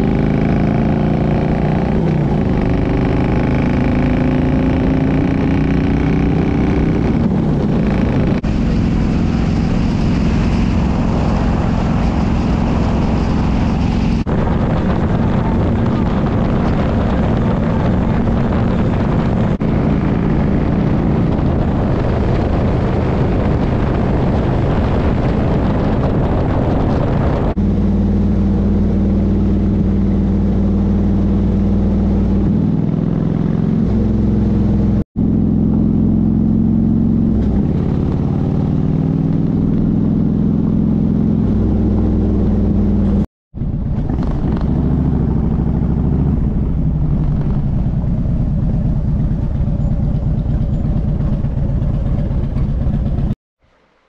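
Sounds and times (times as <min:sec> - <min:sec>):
motorcycle engine running: 0:00.0 - 0:53.4
wind rush on microphone: 0:00.0 - 0:53.4.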